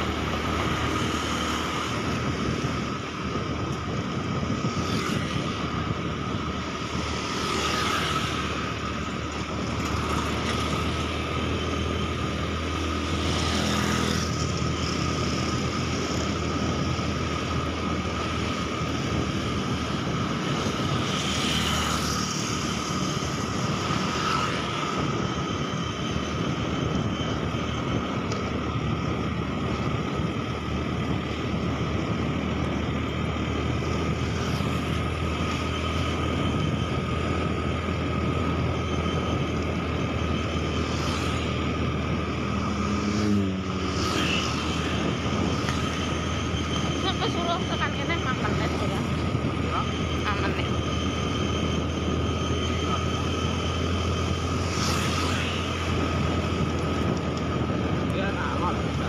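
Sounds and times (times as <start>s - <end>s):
motorbike engine cruising: 0.0s - 59.0s
wind rushing over microphone: 0.0s - 59.0s.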